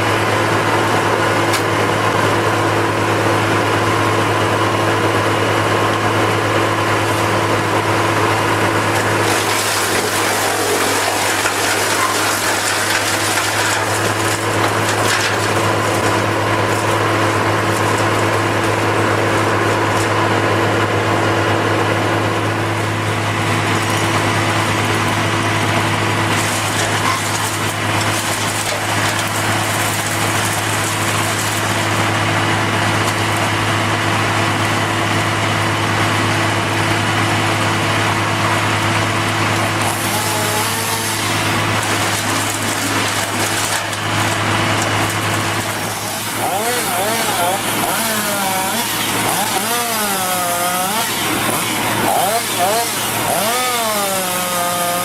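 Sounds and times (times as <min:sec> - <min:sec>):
industrial machine humming: 0:00.0 - 0:55.0
noisy mechanical wash: 0:00.0 - 0:55.0.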